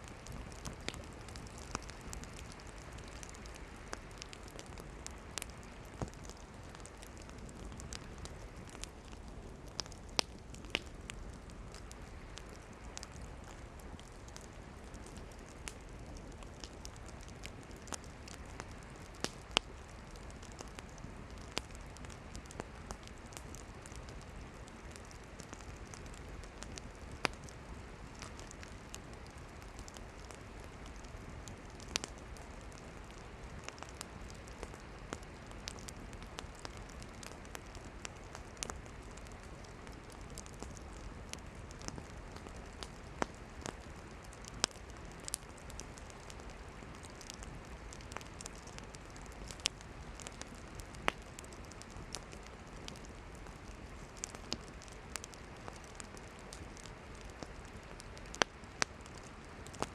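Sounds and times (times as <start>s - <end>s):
campfire crackling: 0.0s - 59.9s
fire popping and snapping: 0.0s - 59.9s.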